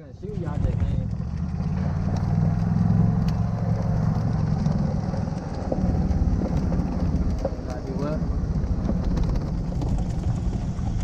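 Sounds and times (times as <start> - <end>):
low rumble: 0.0 - 11.0
golf cart engine running: 0.2 - 11.0.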